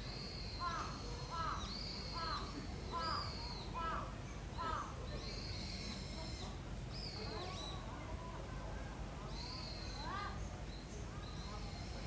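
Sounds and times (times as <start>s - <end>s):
small birds whistling: 0.0s - 3.9s, 4.6s - 7.9s, 9.3s - 12.0s.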